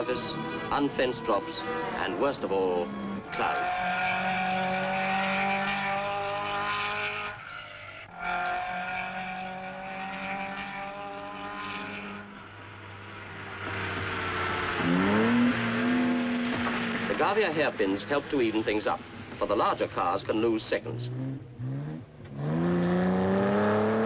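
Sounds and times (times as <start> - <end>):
engine revving up: 0.0 - 24.0
rally car engines at high revs: 0.0 - 24.0.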